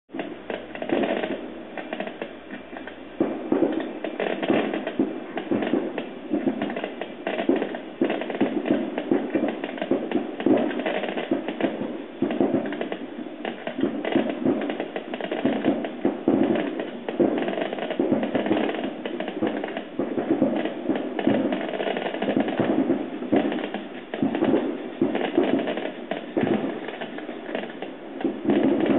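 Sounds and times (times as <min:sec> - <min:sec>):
fireworks bangs and crackles: 0:00.1 - 0:28.9.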